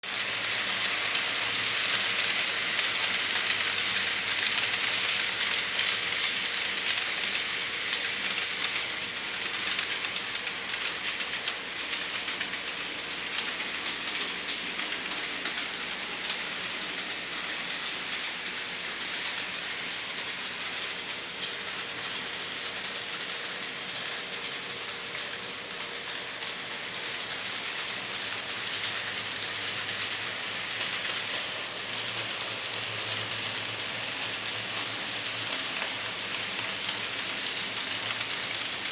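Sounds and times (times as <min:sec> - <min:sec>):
model train wheels rattling on track: 0:00.0 - 0:38.9.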